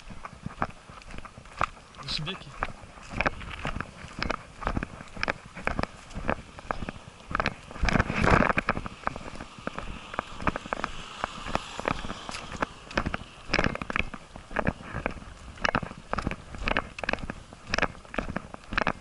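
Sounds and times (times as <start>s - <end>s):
sharp clicks and knocks: 2.6s - 19.0s.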